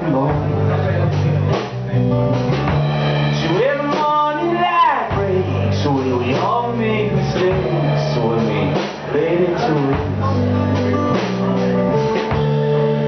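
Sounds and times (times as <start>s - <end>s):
man singing: 0.0s - 1.6s, 3.2s - 13.0s
guitar: 0.0s - 13.0s
sustained bass notes: 0.0s - 13.0s.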